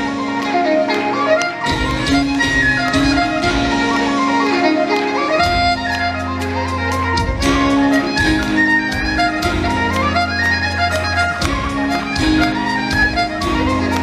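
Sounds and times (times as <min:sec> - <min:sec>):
accordion: 0:00.0 - 0:14.0
fiddle: 0:00.0 - 0:14.0
steady beat: 0:00.0 - 0:14.0.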